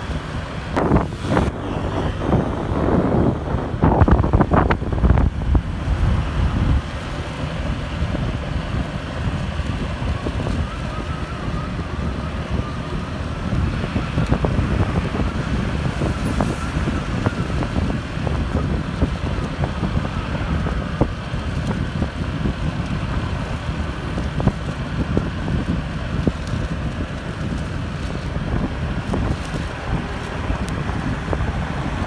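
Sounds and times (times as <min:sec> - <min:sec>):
motorbike engine and tyres rumbling: 0:00.0 - 0:32.0
wind rushing over microphone: 0:00.0 - 0:32.0.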